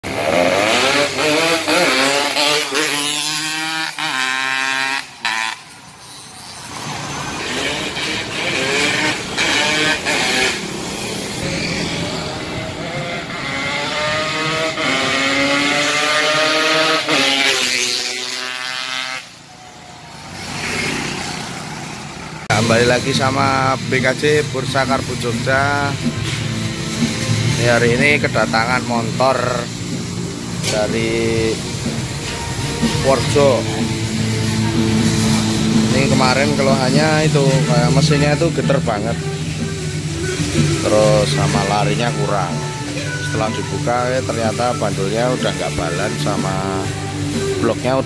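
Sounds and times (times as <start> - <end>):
motorcycles riding past: 0.1 - 6.0, 6.6 - 48.0.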